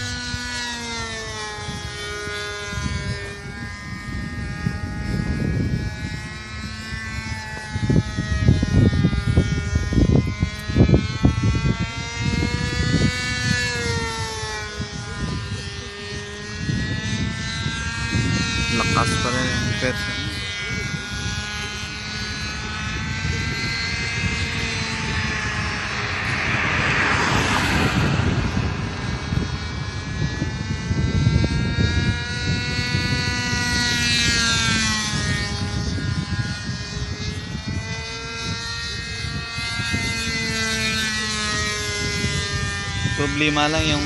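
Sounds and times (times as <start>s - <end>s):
model airplane engine: 0.0s - 44.0s
wind on microphone: 0.0s - 44.0s.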